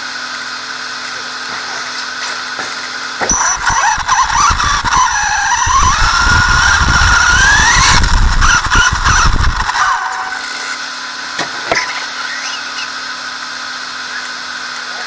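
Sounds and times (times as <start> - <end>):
thin whine with low hum: 0.0 - 15.0
rc car running on dirt: 1.0 - 15.0.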